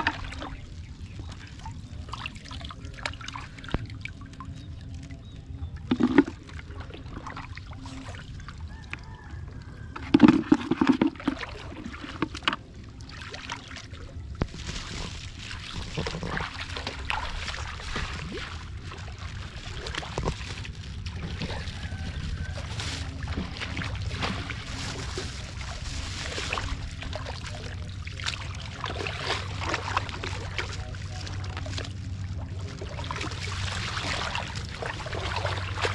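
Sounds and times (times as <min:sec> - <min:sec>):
muddy water sloshing and splashing: 0:00.0 - 0:35.9
steady low rumble: 0:00.0 - 0:35.9.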